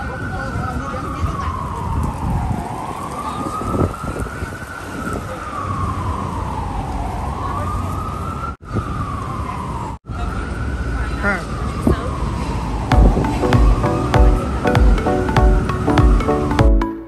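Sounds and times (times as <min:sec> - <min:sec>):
city street traffic rumble: 0:00.0 - 0:16.6
emergency vehicle siren wailing: 0:00.0 - 0:16.8.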